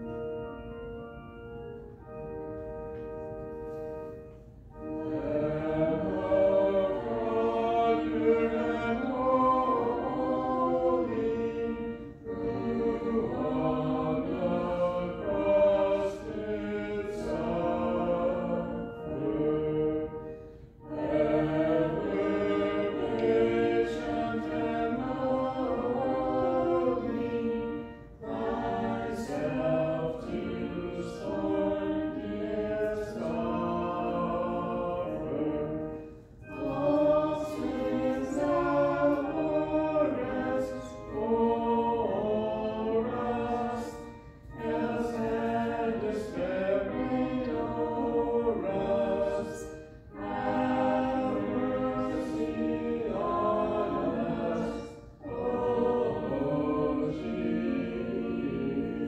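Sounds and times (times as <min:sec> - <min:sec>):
congregation singing a hymn: 0:00.0 - 0:59.0
held instrumental chord: 0:00.0 - 0:59.0.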